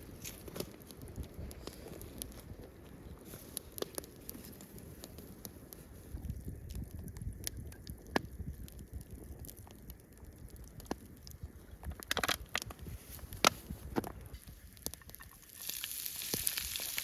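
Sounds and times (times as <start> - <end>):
campfire crackling: 0.0 - 17.0
sharp pops and ticks: 0.2 - 17.0.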